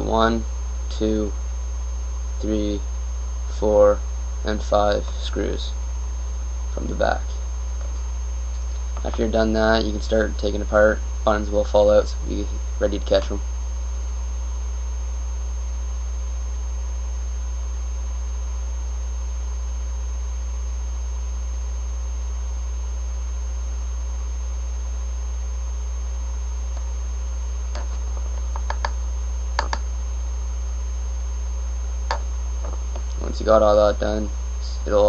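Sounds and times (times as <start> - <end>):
electrical mains hum: 0.0 - 35.0
faint high whine: 0.0 - 35.0.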